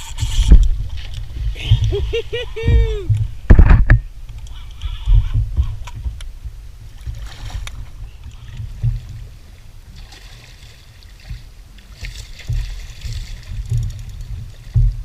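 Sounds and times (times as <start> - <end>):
water splashing around kayak: 0.0 - 15.0
wind rumble on microphone: 0.0 - 15.0.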